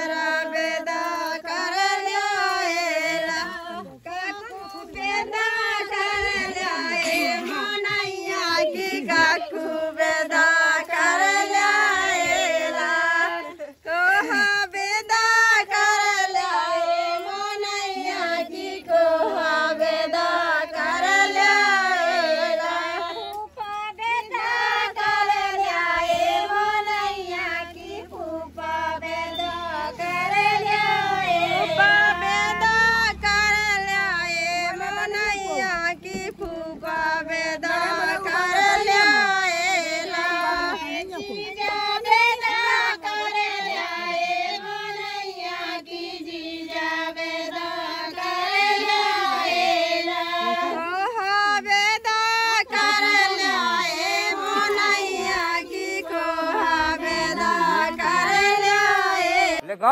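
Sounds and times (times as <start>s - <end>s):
women singing folk song together: 0.0s - 59.7s.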